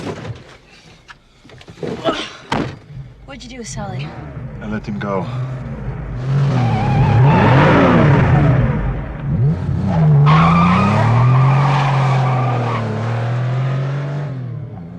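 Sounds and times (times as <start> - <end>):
car engine revving: 2.9 - 14.9.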